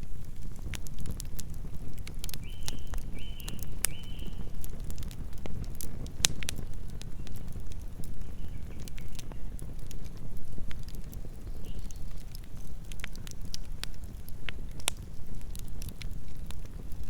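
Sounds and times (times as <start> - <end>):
campfire crackling and roaring: 0.0 - 17.0.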